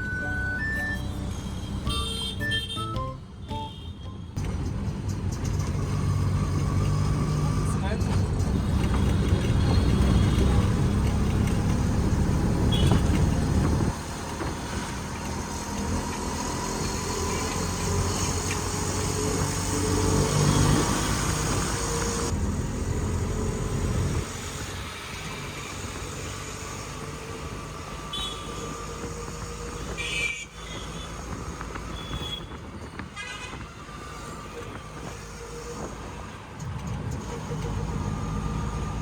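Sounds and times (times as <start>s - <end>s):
road traffic noise: 0.0s - 39.0s
vehicle engine rumble: 4.3s - 39.0s.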